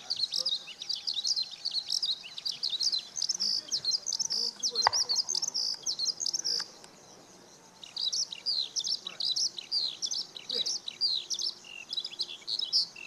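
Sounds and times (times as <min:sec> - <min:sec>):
skylark singing: 0:00.0 - 0:13.0.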